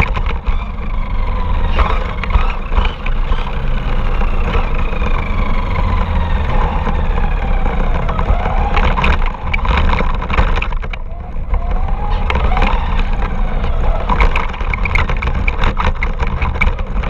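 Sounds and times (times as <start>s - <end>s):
wheels rumbling over rough ground: 0.0s - 17.0s.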